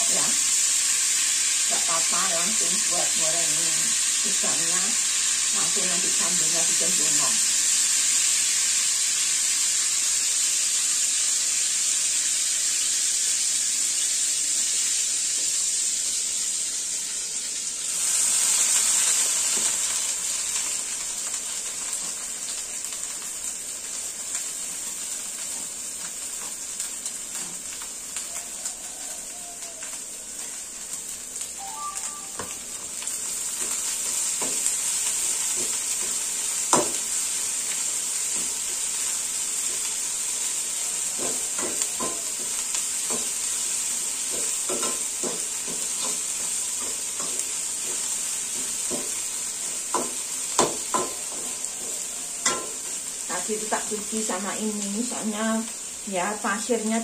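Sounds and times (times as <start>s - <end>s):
hot oil sizzling: 0.0s - 57.0s.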